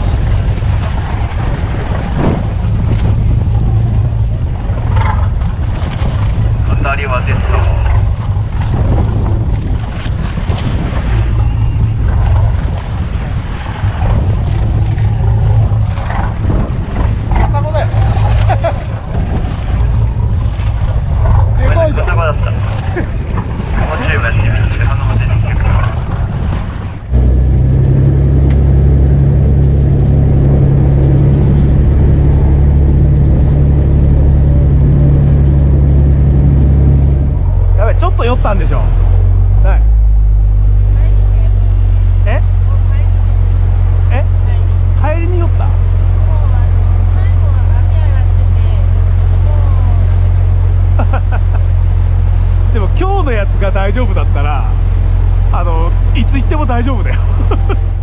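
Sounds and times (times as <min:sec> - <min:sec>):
wind buffeting microphone: 0:00.0 - 0:51.0, 0:51.8 - 0:58.0
boat engine droning: 0:00.0 - 0:58.0
choppy sea washing: 0:00.0 - 0:58.0.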